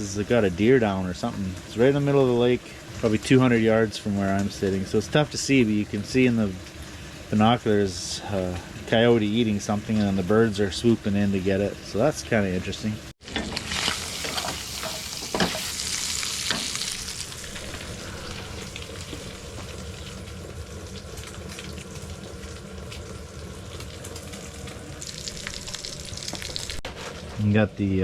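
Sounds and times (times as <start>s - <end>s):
bacon sizzling in a pan: 0.0s - 27.3s.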